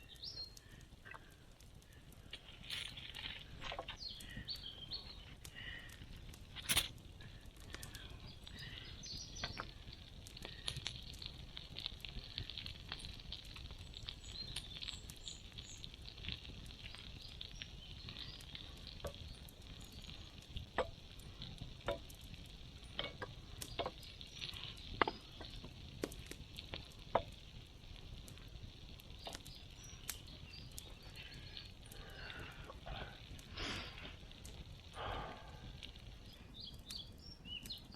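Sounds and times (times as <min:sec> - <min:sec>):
campfire crackling and popping: 0:00.0 - 0:37.9
faint steady hiss: 0:00.0 - 0:37.9.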